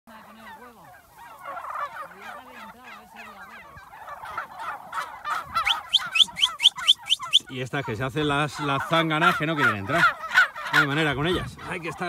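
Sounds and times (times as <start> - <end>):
turkeys calling: 0.1 - 12.0.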